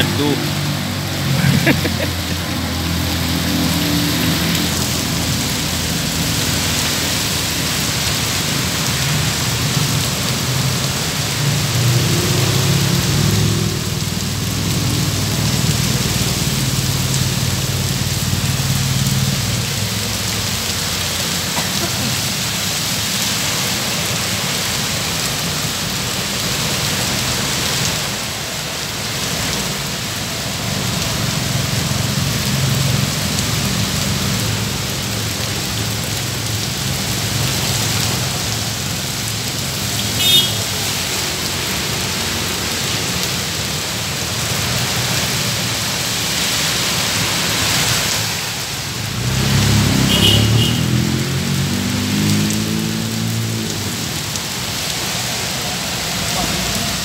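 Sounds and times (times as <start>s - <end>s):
heavy rain on a wet road: 0.0s - 57.0s
traffic rumble on wet road: 0.0s - 57.0s.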